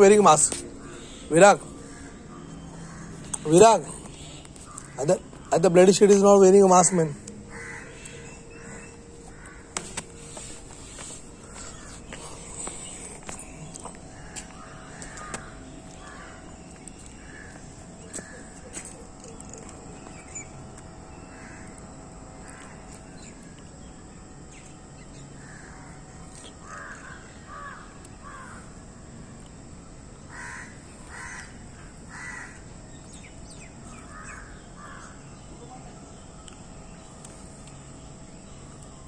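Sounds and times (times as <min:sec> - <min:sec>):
crows cawing: 0:00.0 - 0:23.7, 0:25.0 - 0:28.8, 0:30.2 - 0:35.6
faint steady hum: 0:00.0 - 0:39.0.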